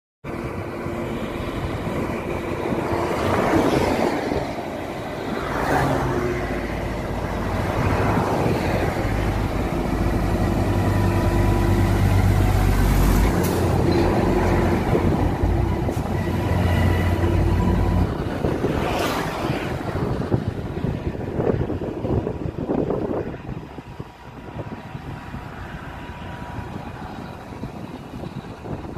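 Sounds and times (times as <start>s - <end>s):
diesel trucks rumbling past: 0.2s - 28.9s.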